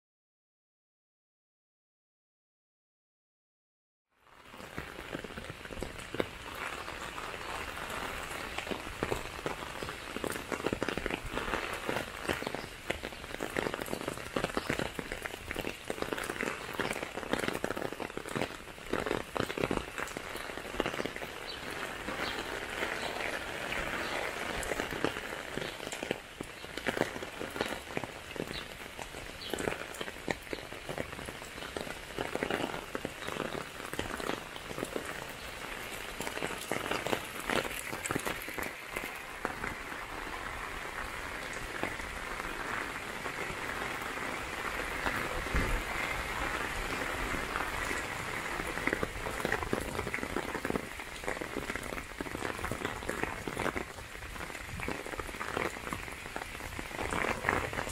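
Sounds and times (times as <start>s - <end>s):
downpour on wet pavement: 4.2s - 57.9s
rain hitting an umbrella: 4.2s - 57.9s.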